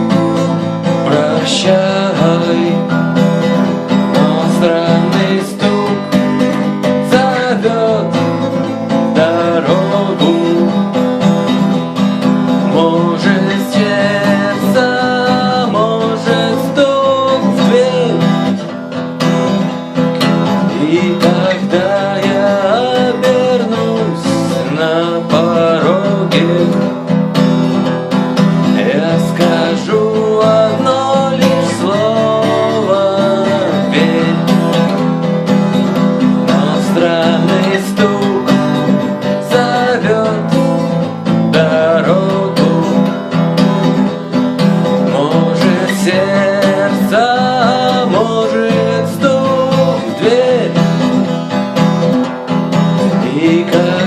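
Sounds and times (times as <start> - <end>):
strummed guitar chords: 0.0 - 54.0.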